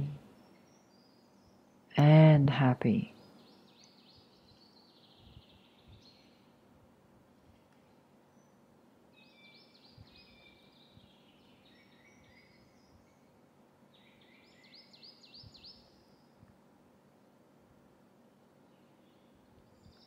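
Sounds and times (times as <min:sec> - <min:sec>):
faint bird chirping: 0:00.0 - 0:20.0
low room hum: 0:00.0 - 0:20.0.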